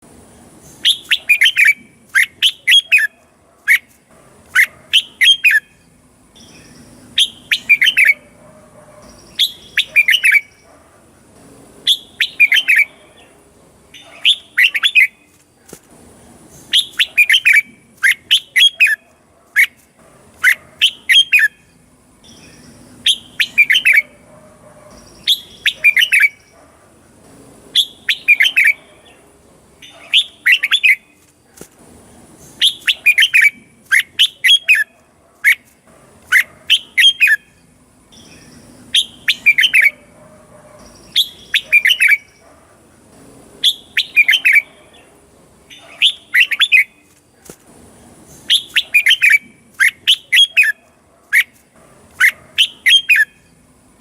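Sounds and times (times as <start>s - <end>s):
bird singing: 0.6s - 10.8s, 11.8s - 15.4s, 16.5s - 19.8s, 20.4s - 26.8s, 27.7s - 31.2s, 32.4s - 42.7s, 43.6s - 47.1s, 48.2s - 53.7s.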